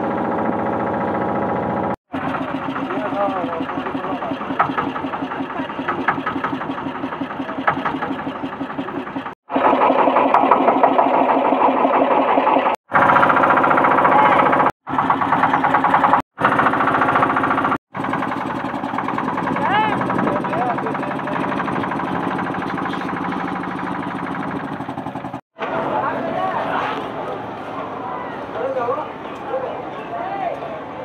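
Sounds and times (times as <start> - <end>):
motorboat engine chugging: 0.0 - 26.2.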